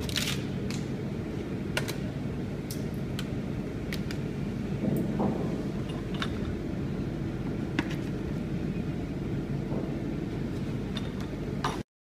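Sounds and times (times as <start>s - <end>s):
low machine hum: 0.0s - 11.8s.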